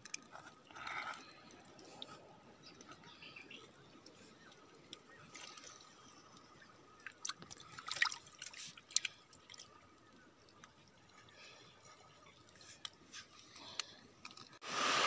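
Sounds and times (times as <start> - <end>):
water trickling and dripping: 1.1 - 14.6.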